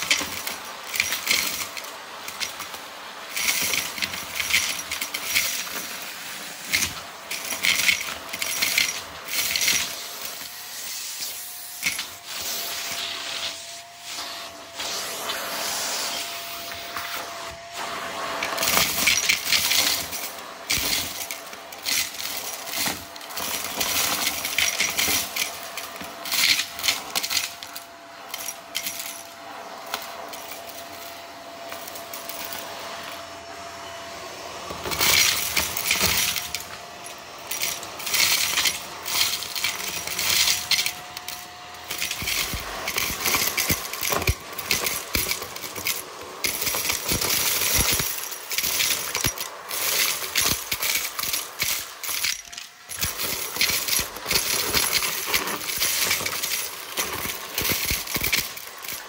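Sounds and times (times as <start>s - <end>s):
small hard objects clinking: 0.0s - 10.7s, 11.3s - 12.3s, 18.3s - 33.3s, 34.7s - 59.0s.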